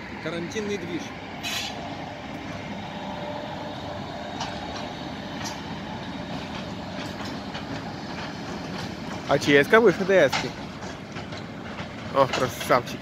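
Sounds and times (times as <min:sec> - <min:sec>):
electric locomotive rolling: 0:00.0 - 0:13.0
clicks of wheels over rail joints: 0:00.2 - 0:13.0.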